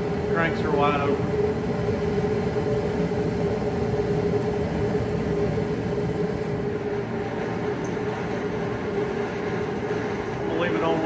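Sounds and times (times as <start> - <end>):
forced-air heater running: 0.0 - 11.0.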